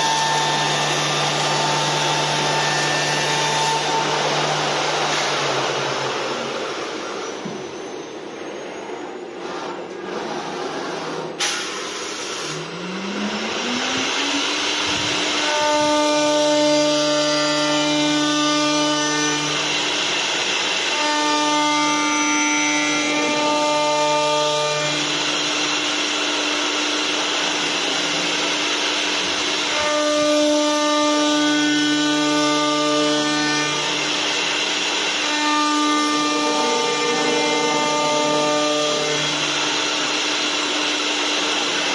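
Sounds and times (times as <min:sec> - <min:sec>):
lathe spindle whine: 0:00.0 - 0:08.6, 0:12.6 - 0:41.9
machining noise: 0:00.0 - 0:11.1, 0:12.4 - 0:41.9.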